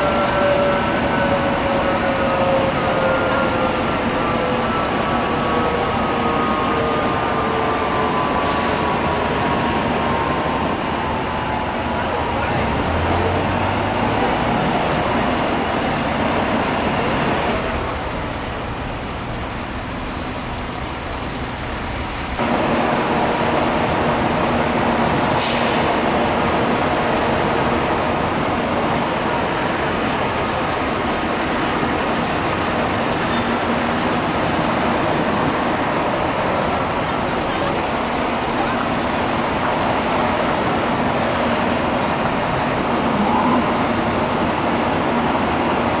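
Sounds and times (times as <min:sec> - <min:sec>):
fire trucks idling: 0:00.0 - 0:46.0
street traffic: 0:00.0 - 0:46.0.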